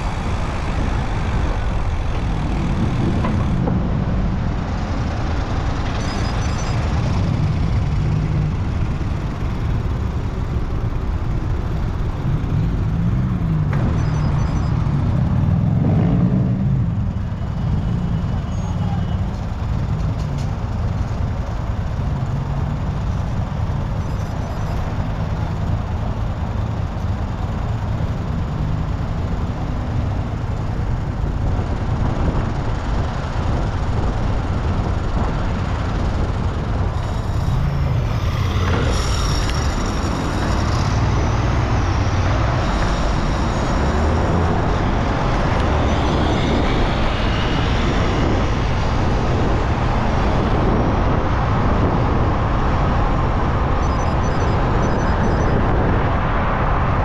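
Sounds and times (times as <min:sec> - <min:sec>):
low rumble of passing vehicles: 0:00.0 - 0:57.0.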